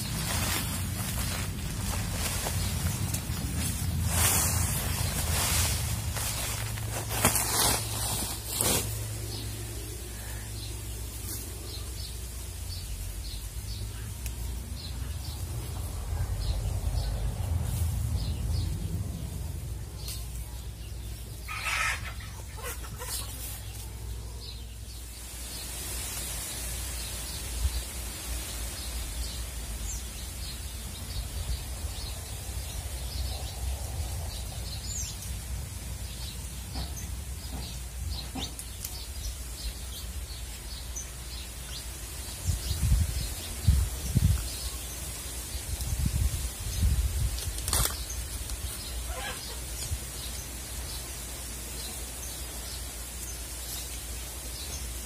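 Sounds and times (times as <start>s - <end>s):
steady low rumble: 0.0s - 21.5s, 26.9s - 51.5s
small birds chirping: 0.0s - 55.0s.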